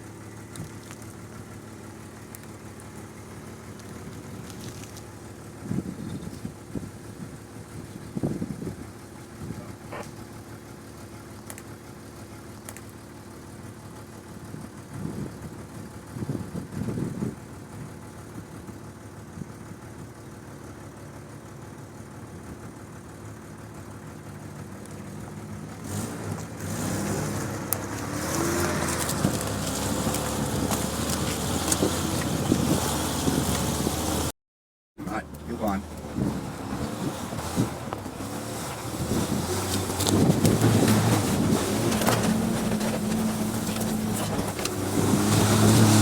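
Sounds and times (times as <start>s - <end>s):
jeep engine running: 0.0s - 34.3s, 35.0s - 46.0s.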